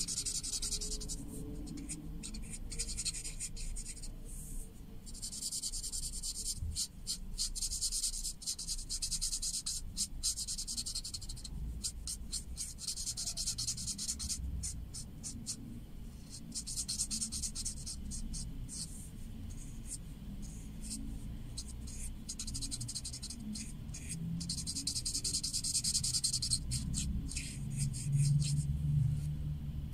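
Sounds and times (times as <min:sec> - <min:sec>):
marker scratching on paper: 0:00.0 - 0:29.3.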